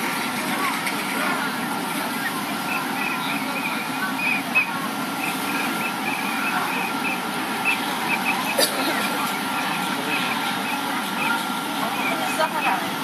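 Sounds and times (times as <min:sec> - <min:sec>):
distant crowd chatter: 0:00.0 - 0:13.0.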